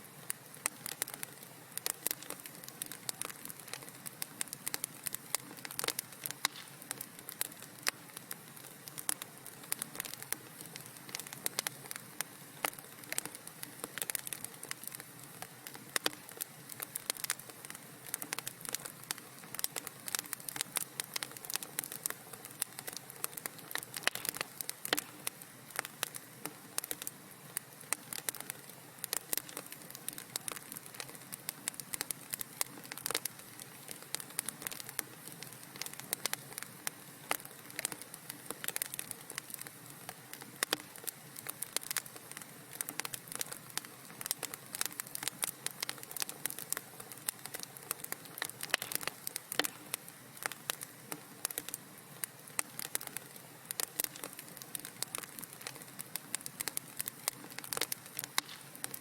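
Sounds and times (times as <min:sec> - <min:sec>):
fire crackling in fireplace: 0:00.0 - 0:59.0.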